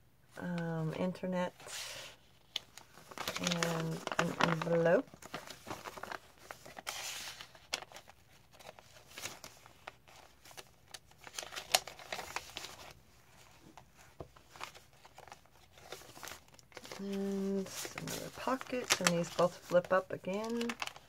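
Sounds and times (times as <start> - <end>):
paper rustling and crinkling: 1.6 - 21.0.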